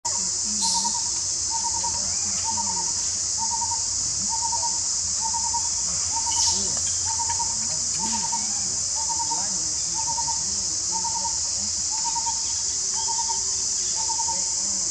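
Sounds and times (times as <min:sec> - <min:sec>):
high-pitched insect drone: 0:00.1 - 0:14.9
bird pulsing call: 0:00.5 - 0:14.6.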